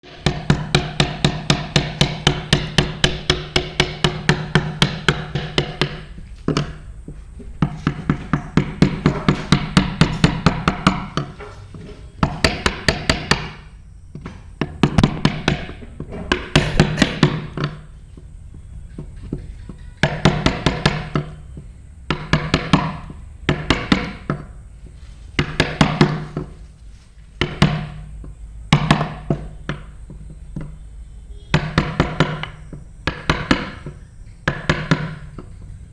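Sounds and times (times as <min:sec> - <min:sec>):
mallet tapping chisel into wood: 0:00.1 - 0:11.6, 0:12.2 - 0:24.6, 0:25.4 - 0:26.6, 0:27.4 - 0:30.8, 0:31.5 - 0:35.6.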